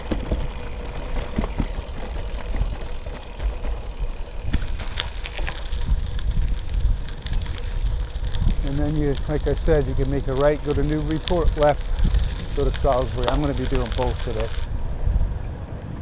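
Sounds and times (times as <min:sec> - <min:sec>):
bike clicks and rattles: 0:00.0 - 0:14.8
bicycle tyres rumbling: 0:00.0 - 0:16.0.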